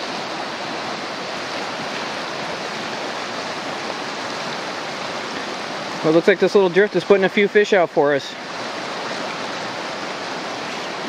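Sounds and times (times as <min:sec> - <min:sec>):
river current rushing: 0:00.0 - 0:11.0.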